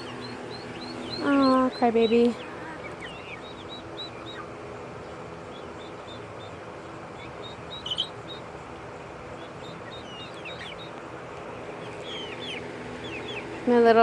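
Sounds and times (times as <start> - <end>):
duckling peeping: 0.0 - 14.0
steady low hum: 0.0 - 14.0.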